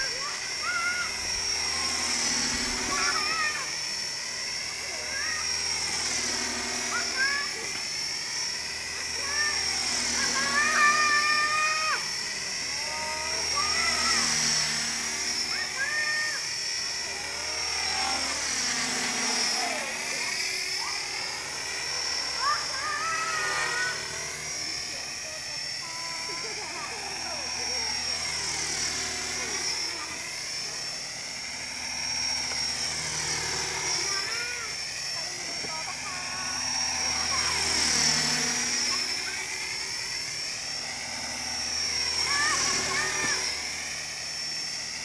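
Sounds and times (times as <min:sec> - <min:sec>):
model helicopter whine: 0:00.0 - 0:45.0.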